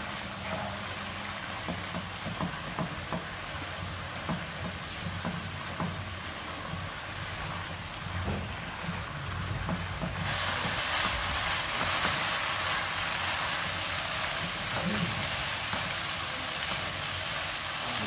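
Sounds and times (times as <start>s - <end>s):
stir-fry sizzling in a pan: 0.0s - 18.0s.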